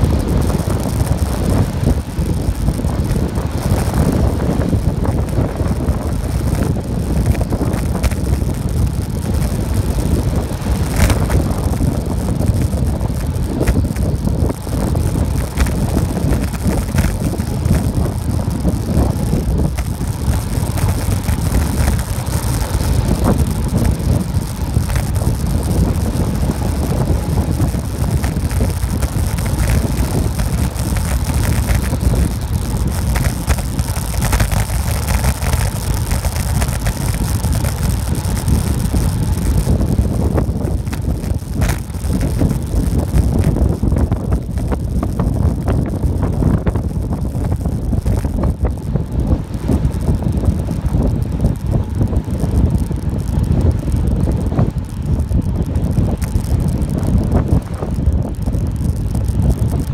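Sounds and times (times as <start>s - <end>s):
tyre rolling on asphalt: 0.0s - 59.9s
wind buffeting microphone: 0.0s - 59.9s.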